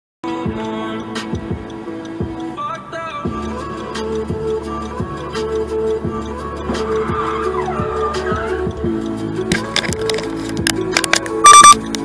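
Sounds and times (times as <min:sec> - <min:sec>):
background music with held notes: 0:00.2 - 0:12.0.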